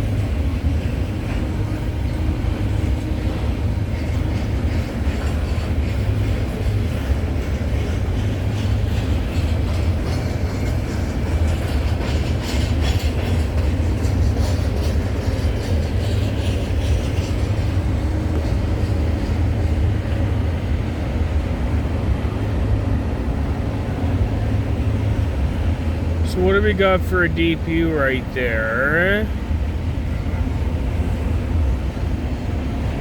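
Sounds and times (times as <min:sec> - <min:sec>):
freight train rumbling: 0:00.0 - 0:33.0.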